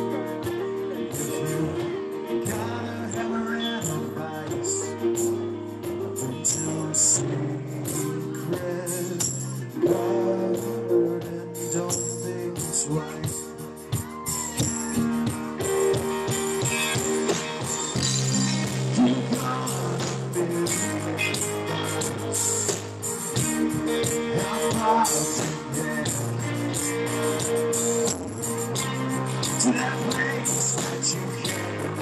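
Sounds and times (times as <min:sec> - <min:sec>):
live band playing rock: 0:00.0 - 0:32.0
man singing: 0:00.9 - 0:32.0.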